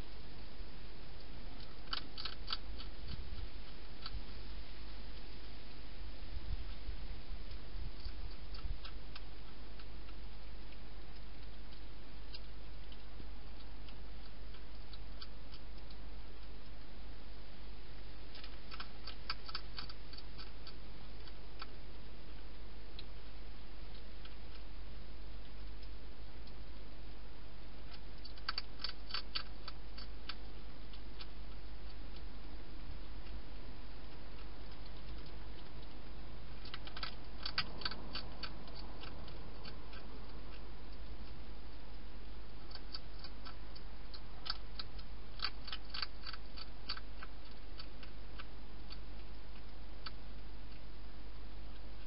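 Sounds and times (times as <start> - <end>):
hedgehog chewing crunches: 0.0 - 5.8, 6.4 - 52.0
low hum: 0.0 - 52.0
steady hiss: 0.0 - 52.0.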